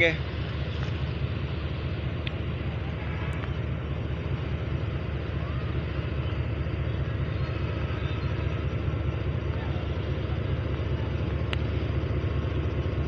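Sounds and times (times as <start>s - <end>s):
locomotive engine rumbling: 0.0s - 13.0s.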